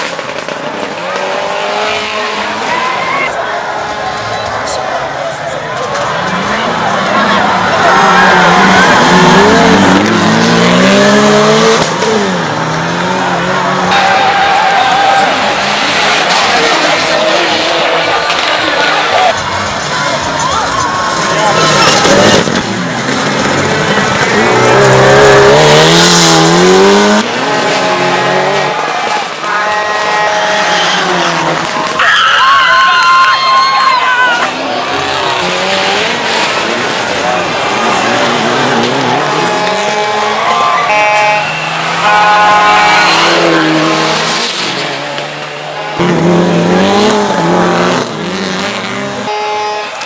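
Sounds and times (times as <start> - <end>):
rally car engine revving: 0.0 - 32.0, 34.1 - 50.0.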